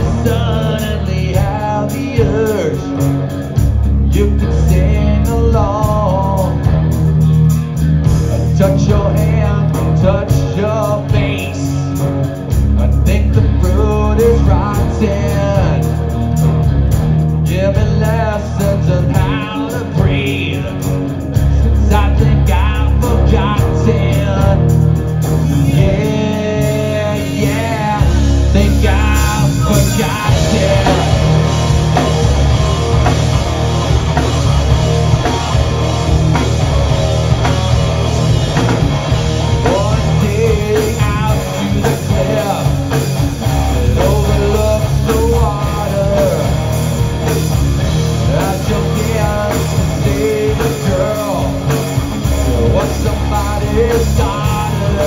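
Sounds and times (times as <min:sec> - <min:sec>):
bass guitar: 0:00.0 - 0:55.0
distorted electric guitars: 0:00.0 - 0:55.0
drum kit: 0:00.0 - 0:55.0.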